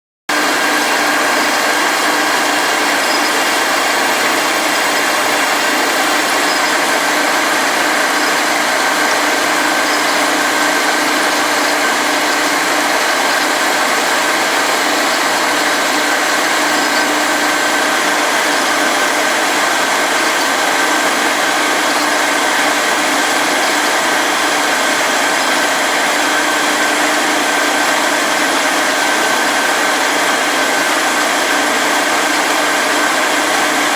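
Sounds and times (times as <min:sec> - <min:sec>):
milling machine cutting with whine: 0:00.3 - 0:33.9.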